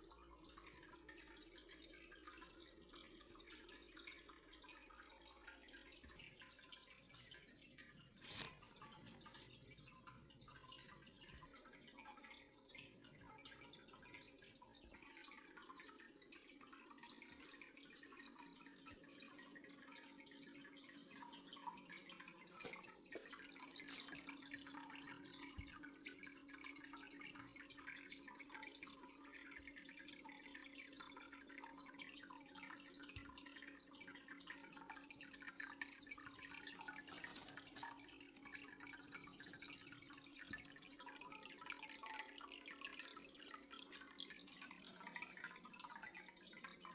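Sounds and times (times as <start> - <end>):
faint dripping water: 0.0 - 46.9.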